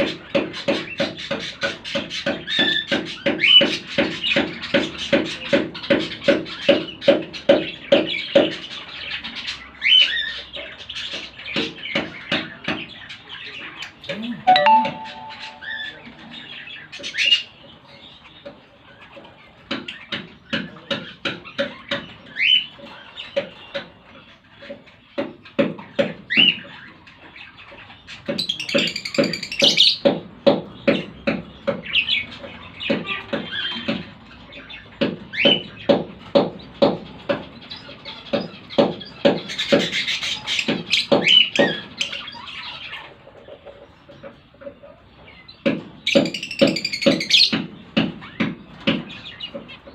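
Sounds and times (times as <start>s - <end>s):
lovebirds chirping and squawking: 0.0s - 15.8s, 17.1s - 49.9s.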